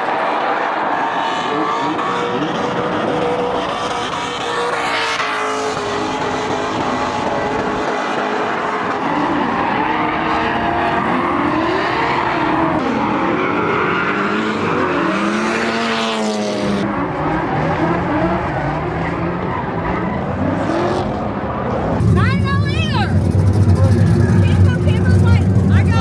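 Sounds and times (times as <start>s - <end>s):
tyres skidding: 0.0s - 21.4s, 22.0s - 26.0s
car engines revving: 0.0s - 26.0s.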